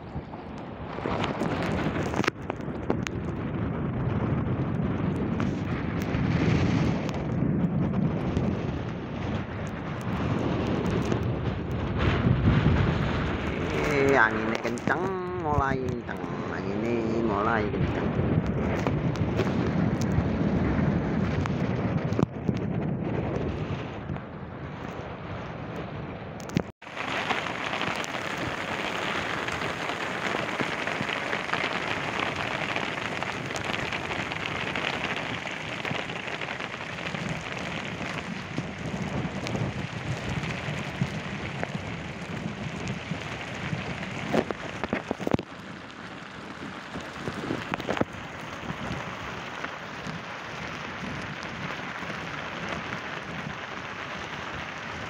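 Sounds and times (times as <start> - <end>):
rain falling: 0.0 - 22.3, 26.5 - 55.0.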